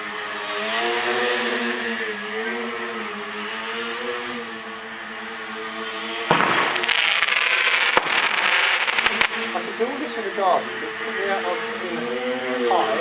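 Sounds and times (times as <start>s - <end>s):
drone motors and propellers buzzing: 0.0s - 13.0s
high motor whine: 0.0s - 13.0s.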